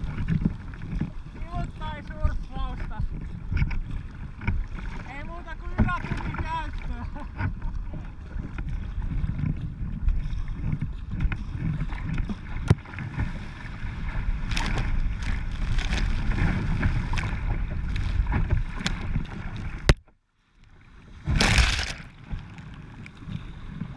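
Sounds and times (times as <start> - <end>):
low rumble of wind: 0.0 - 23.9
waves slapping against kayak: 0.0 - 23.9.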